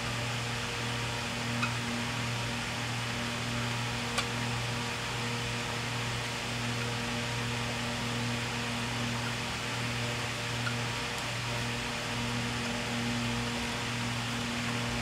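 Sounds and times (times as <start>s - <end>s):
room hum and hiss: 0.0s - 15.0s.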